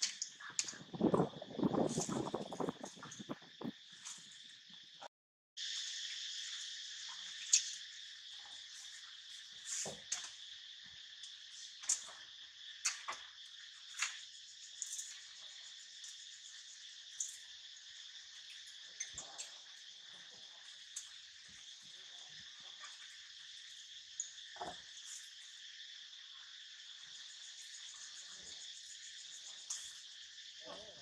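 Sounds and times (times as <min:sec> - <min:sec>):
insect chorus buzzing: 0:00.0 - 0:31.0.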